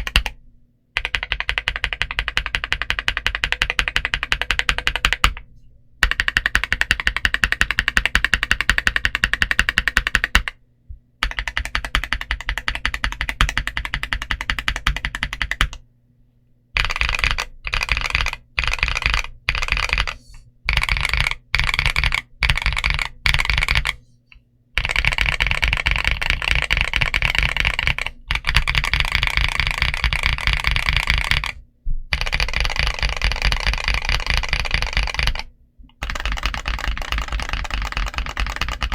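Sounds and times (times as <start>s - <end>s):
mechanical keyboard typing: 0.0s - 0.4s, 1.0s - 5.4s, 6.0s - 10.6s, 11.2s - 15.8s, 16.8s - 24.0s, 24.8s - 38.9s.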